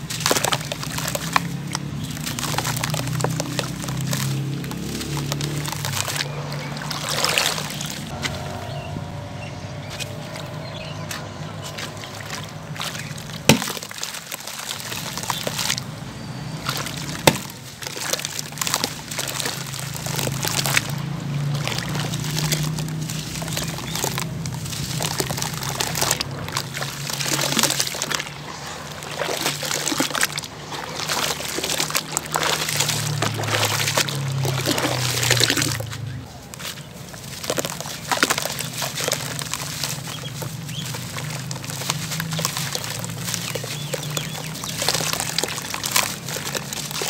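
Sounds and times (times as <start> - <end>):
gritty crackles: 0.0 - 47.0
water sloshing in a basin: 0.0 - 47.0.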